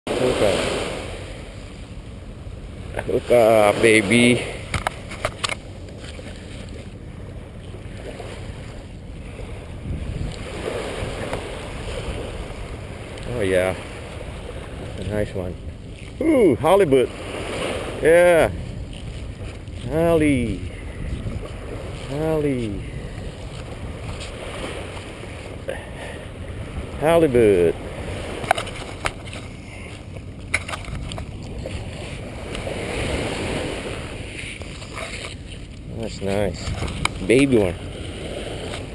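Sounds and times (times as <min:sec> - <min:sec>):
small waves washing on beach: 0:00.1 - 0:38.9
wind rumbling on microphone: 0:00.2 - 0:38.9.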